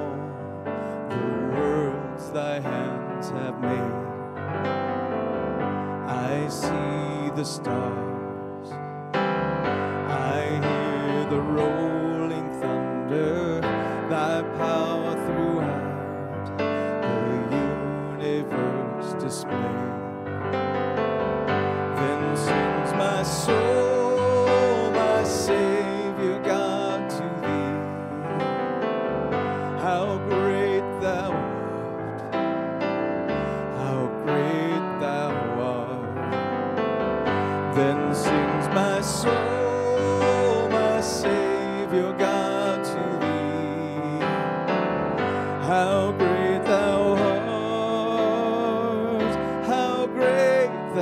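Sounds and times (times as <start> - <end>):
man singing into microphone: 0.0 - 4.4, 5.7 - 9.1, 9.7 - 20.6, 21.6 - 32.5, 33.4 - 36.7, 37.3 - 51.0
electric piano keyboard: 0.0 - 51.0.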